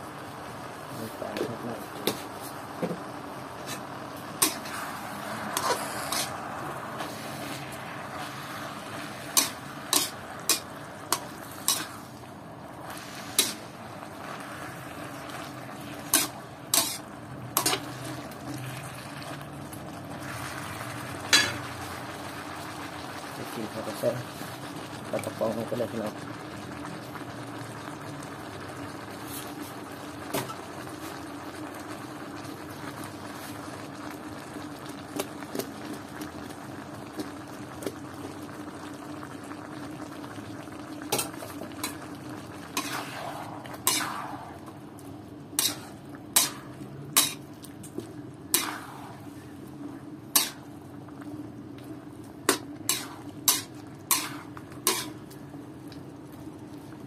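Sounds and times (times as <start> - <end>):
food sizzling in wok: 0.0 - 55.7.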